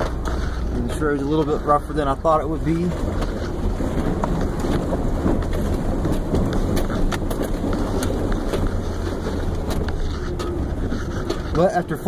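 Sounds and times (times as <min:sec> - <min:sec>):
body and suspension rattles: 0:00.0 - 0:12.0
vehicle engine and road rumble: 0:00.0 - 0:12.0.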